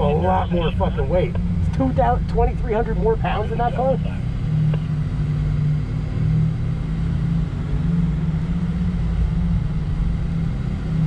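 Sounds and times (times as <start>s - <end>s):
constant low hum: 0.0s - 11.0s.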